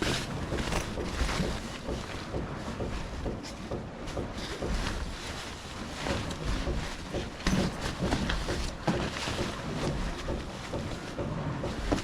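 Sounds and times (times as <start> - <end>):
camping gear rustling and knocking: 0.0 - 12.0.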